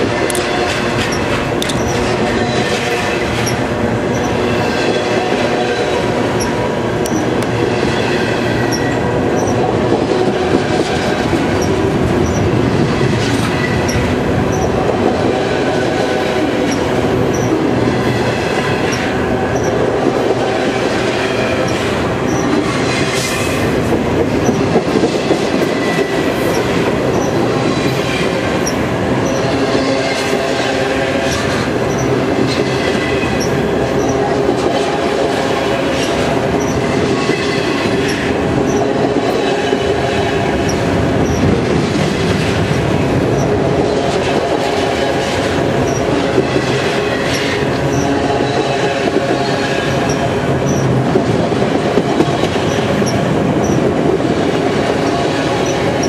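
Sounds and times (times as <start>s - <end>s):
train wheels rumbling on rails: 0.0s - 56.0s
wheels squealing: 0.4s - 51.0s.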